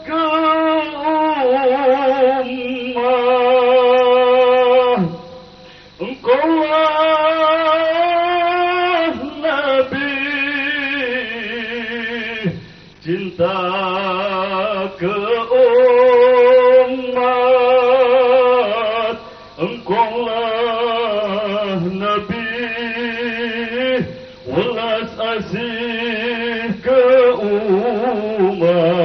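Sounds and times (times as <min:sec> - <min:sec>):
man chanting into a microphone: 0:00.0 - 0:29.0.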